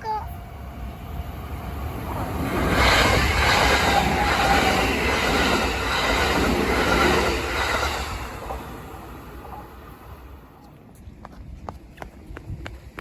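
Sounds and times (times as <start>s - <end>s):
train wheels rushing on rail: 0.6s - 13.0s.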